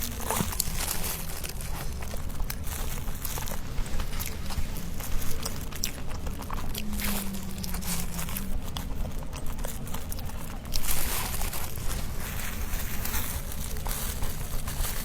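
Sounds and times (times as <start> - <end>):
low hum: 0.0 - 15.0
person chewing pastries: 0.0 - 15.0
rustling: 0.0 - 15.0.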